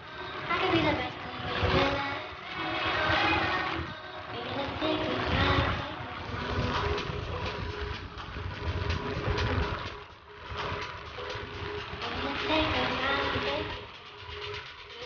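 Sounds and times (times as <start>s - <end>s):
wind buffeting microphone: 0.6s - 14.3s.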